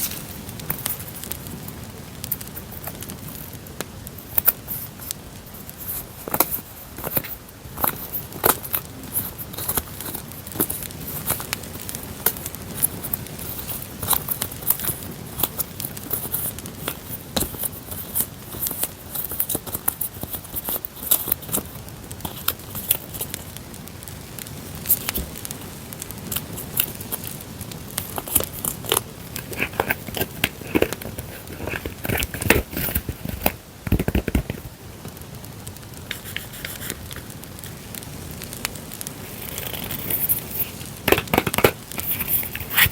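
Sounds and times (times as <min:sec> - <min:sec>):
paper and packaging crinkling: 0:00.0 - 0:35.2, 0:35.9 - 0:42.9
campfire crackling: 0:00.0 - 0:42.9.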